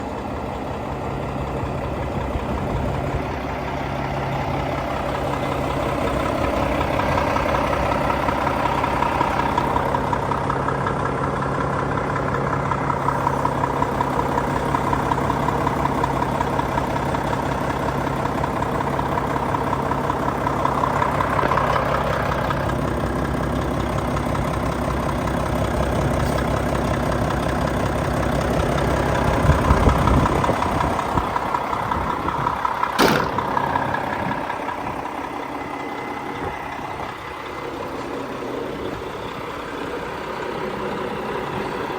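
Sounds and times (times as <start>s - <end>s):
diesel truck engine idling: 0.0s - 41.9s.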